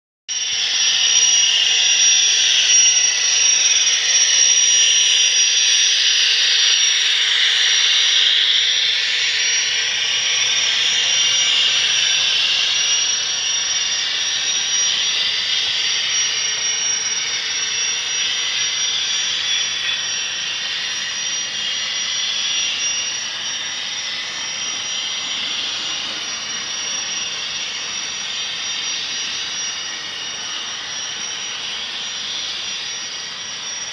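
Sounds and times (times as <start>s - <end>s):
jet-like turbine whine: 0.3s - 33.9s.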